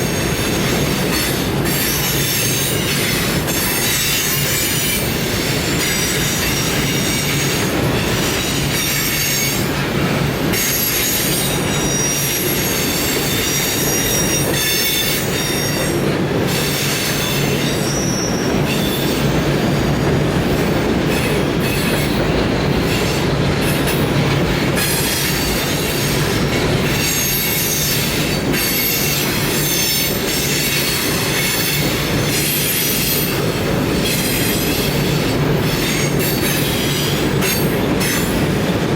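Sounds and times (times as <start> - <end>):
steel wheels squealing: 0.0 - 38.7
train rumbling: 0.0 - 38.9.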